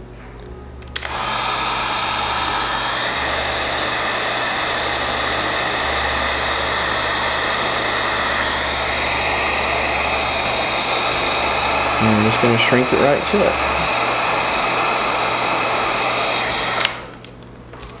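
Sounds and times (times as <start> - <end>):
heat gun fan blowing: 0.7 - 18.0.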